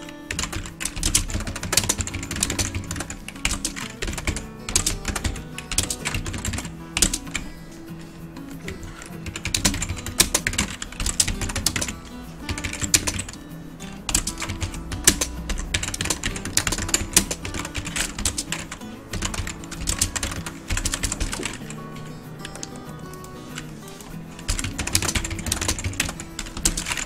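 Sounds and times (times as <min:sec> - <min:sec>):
computer keyboard typing: 0:00.0 - 0:07.7, 0:08.6 - 0:13.5, 0:14.1 - 0:27.0
background music: 0:00.0 - 0:27.0.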